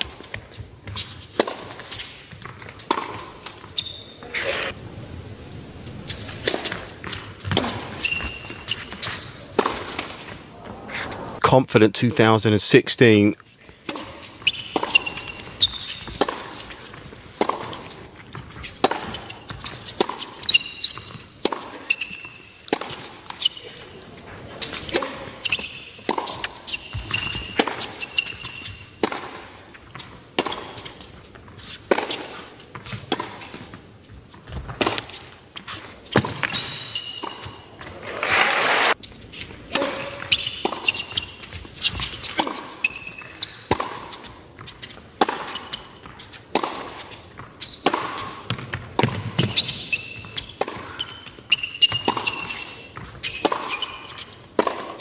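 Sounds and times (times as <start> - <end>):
racket striking tennis ball: 0.0 - 4.8, 6.0 - 11.1, 13.8 - 33.8, 34.4 - 55.0
shoes squeaking on court: 0.0 - 4.8, 5.9 - 11.4, 13.1 - 55.0.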